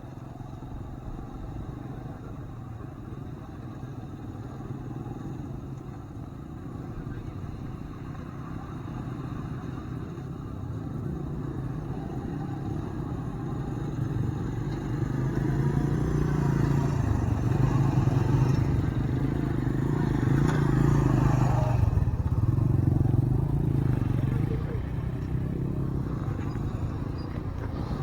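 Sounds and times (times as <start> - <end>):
motorcycle engine running: 1.5 - 28.0.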